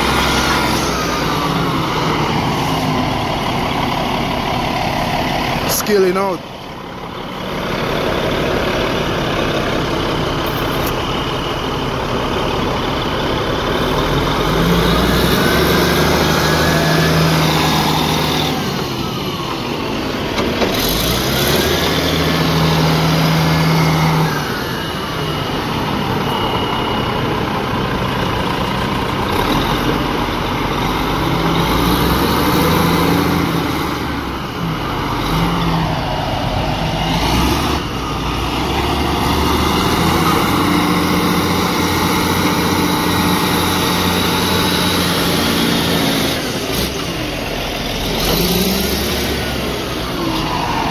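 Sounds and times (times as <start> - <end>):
diesel engine revving under load: 0.0 - 50.9.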